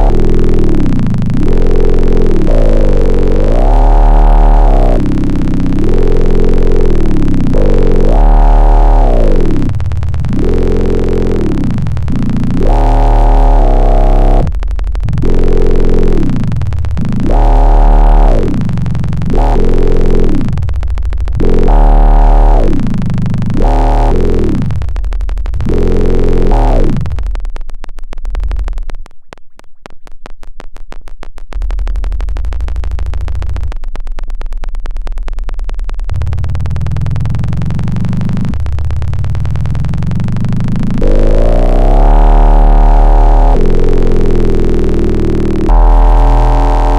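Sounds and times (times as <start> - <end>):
synthesizer notes gliding downward: 0.0 - 33.1, 39.3 - 46.9
low buzzing synth drone: 0.0 - 46.9.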